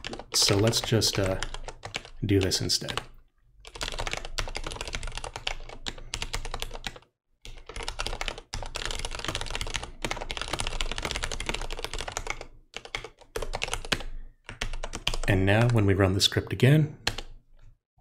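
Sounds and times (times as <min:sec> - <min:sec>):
fast typing on keyboard: 0:00.0 - 0:15.9, 0:17.0 - 0:17.4.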